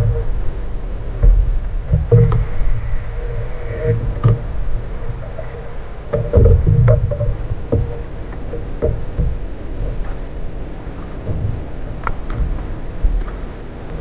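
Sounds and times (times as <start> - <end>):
water slapping boat hull: 0.0 - 14.0
wind rumbling on microphone: 0.0 - 14.0.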